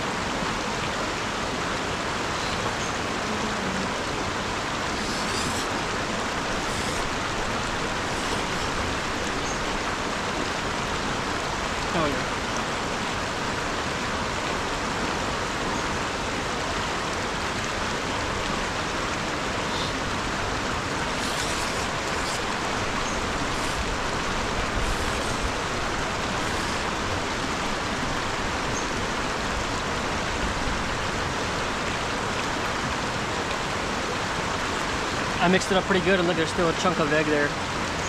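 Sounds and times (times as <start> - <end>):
river water rushing over rocks: 0.0 - 38.0.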